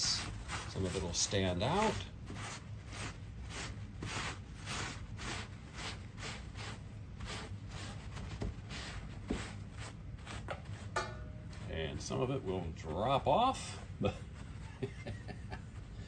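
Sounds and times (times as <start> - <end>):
low steady hum: 0.0 - 16.0
paper towels dabbing plaster: 0.0 - 16.0.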